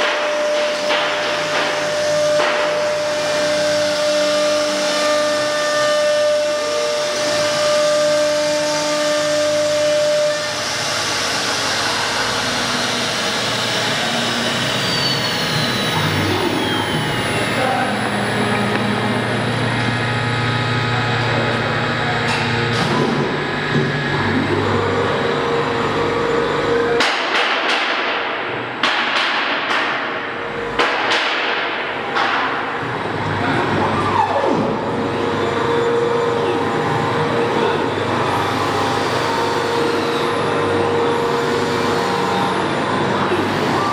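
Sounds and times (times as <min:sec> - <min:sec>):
wood router cutting wood: 0:00.0 - 0:27.1, 0:31.8 - 0:43.9.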